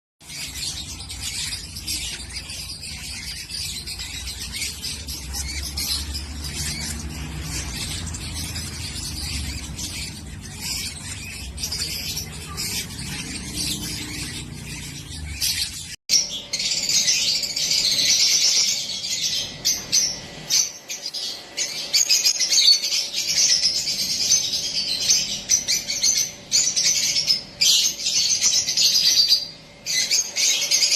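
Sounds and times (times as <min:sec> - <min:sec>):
parrot chicks chirping: 0:00.2 - 0:30.9.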